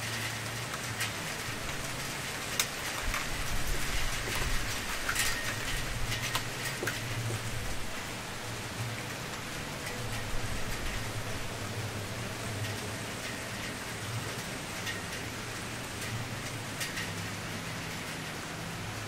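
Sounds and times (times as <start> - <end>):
wood fire hissing and crackling: 0.0 - 19.0.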